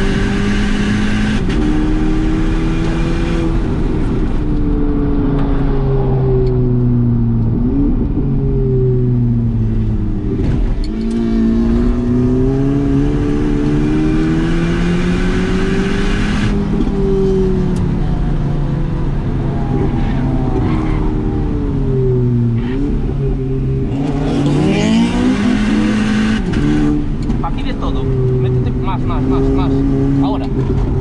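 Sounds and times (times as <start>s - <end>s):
car engine revving in cabin: 0.0s - 31.0s.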